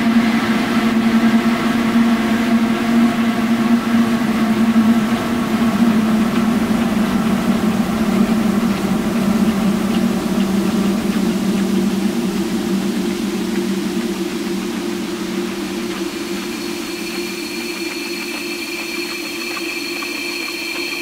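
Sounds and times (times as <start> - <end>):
layered drone tones: 0.0 - 21.0
hissing wash of noise: 0.1 - 21.0.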